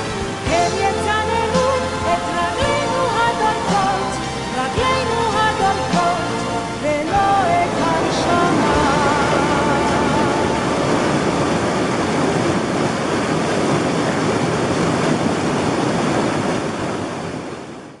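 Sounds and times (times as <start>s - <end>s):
water rushing over boulders: 0.0s - 18.0s.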